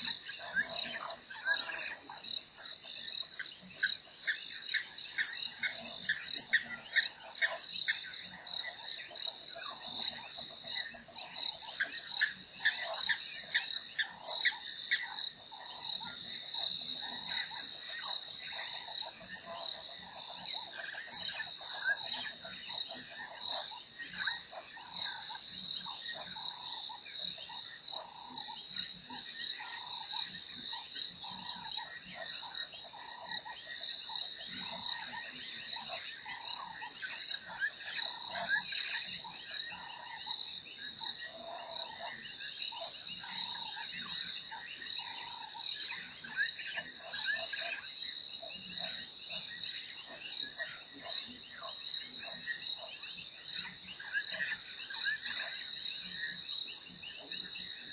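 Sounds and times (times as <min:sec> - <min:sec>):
frog calls: 0:00.0 - 0:57.9.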